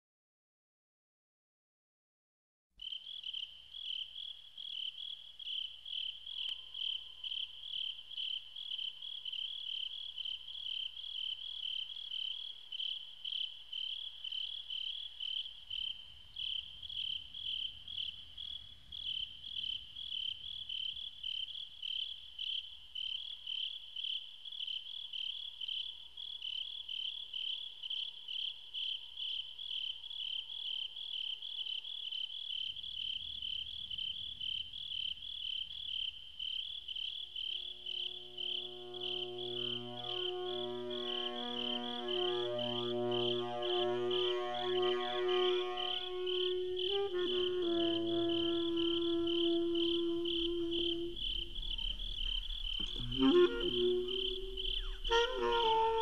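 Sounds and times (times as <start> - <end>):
insect chirping trill: 2.8 - 56.0.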